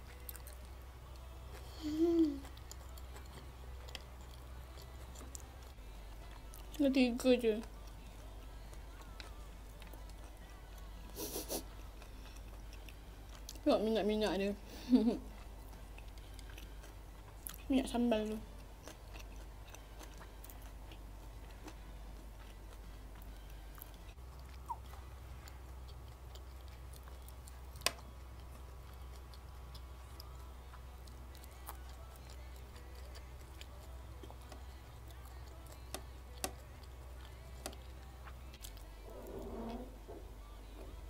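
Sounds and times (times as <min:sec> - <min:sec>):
chewing: 0:00.0 - 0:06.8, 0:07.5 - 0:13.7, 0:15.0 - 0:39.8
steady low hum: 0:00.0 - 0:41.0.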